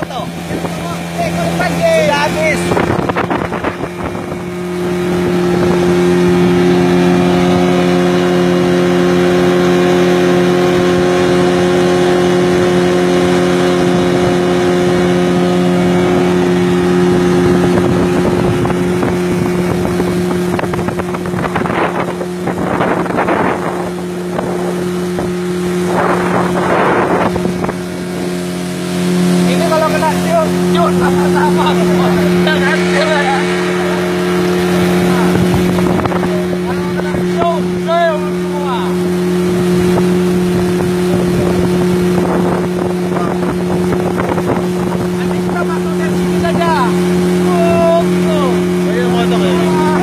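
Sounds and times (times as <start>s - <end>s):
outboard motor running: 0.0s - 50.0s.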